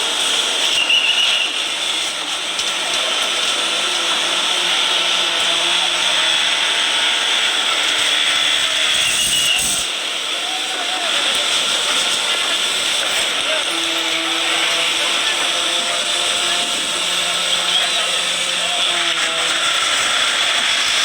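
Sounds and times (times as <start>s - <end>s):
heavy machinery hissing: 0.0s - 21.0s.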